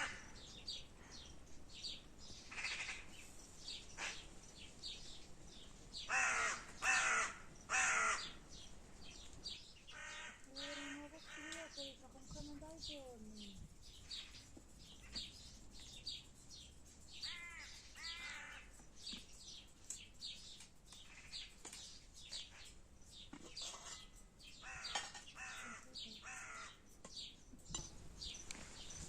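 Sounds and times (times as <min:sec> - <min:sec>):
harsh bird calls: 0:00.0 - 0:01.4, 0:02.3 - 0:04.4, 0:06.0 - 0:29.0
birds chirping: 0:00.0 - 0:29.0.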